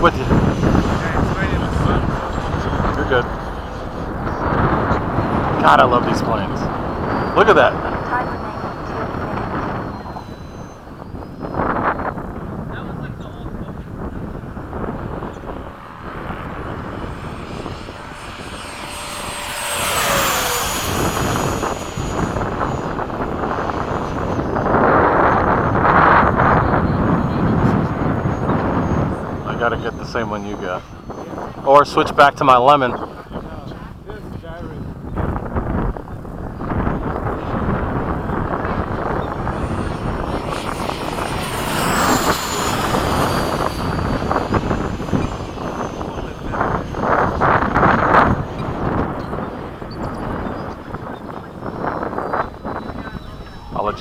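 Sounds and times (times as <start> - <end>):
model jet fan whine flying past: 0.0 - 54.0
wind rumble: 0.0 - 54.0.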